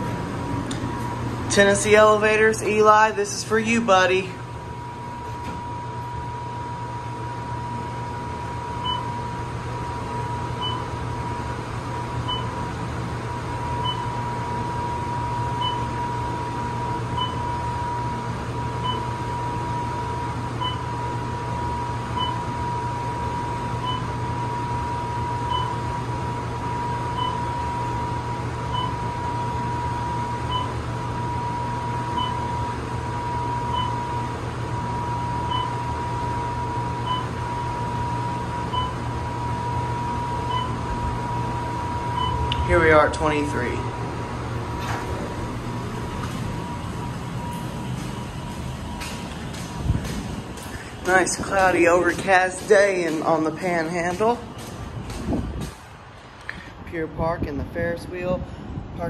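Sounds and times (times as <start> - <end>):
elevator whine and hum: 0.0 - 59.0.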